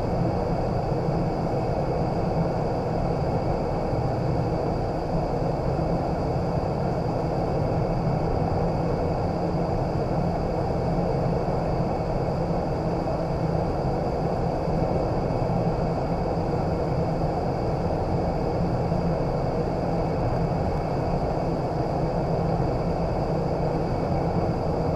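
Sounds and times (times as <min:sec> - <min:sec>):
wind tunnel air roar: 0:00.0 - 0:24.9.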